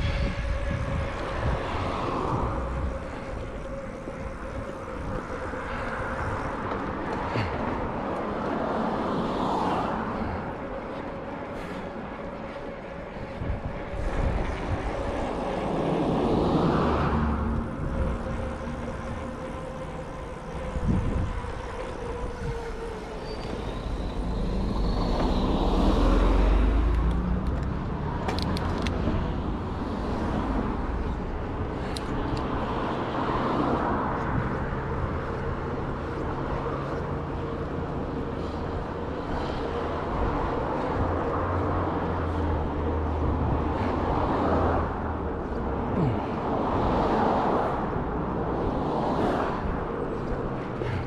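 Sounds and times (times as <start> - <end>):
wind noise on microphone: 0.0 - 12.0, 12.8 - 51.0
road traffic passing: 0.0 - 51.0.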